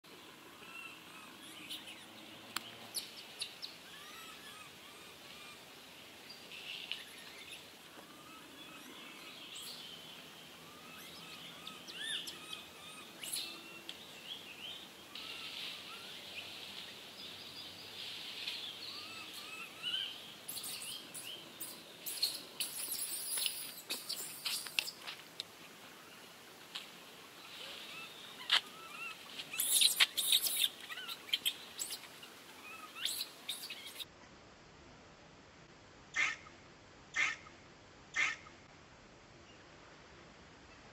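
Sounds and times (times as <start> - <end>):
small birds chirping: 0.0 - 34.1
outdoor background noise: 0.0 - 40.9.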